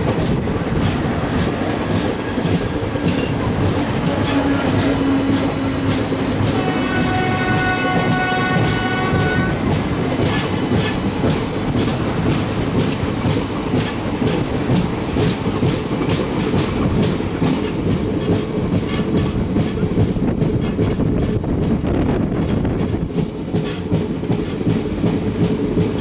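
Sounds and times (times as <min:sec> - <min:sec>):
train wheels clattering: 0:00.0 - 0:26.0.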